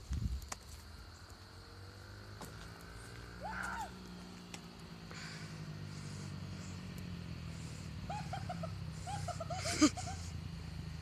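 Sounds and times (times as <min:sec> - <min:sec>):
dirt bike engine idling: 0:01.4 - 0:11.0.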